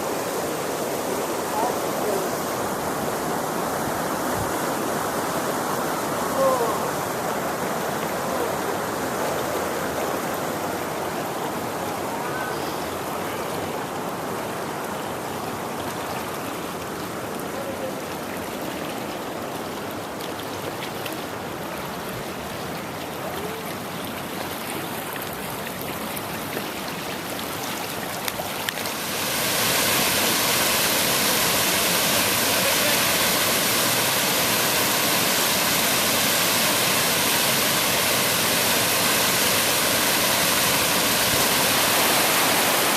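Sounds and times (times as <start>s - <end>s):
water rushing over falls: 0.0s - 42.9s.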